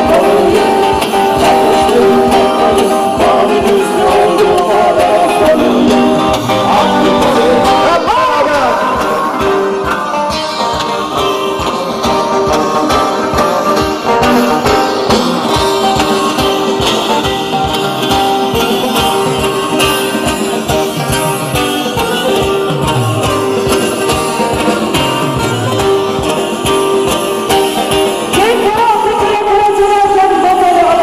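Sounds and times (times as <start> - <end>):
steady beat: 0.0 - 28.6
person singing: 0.0 - 31.0
plucked string instruments: 0.0 - 31.0.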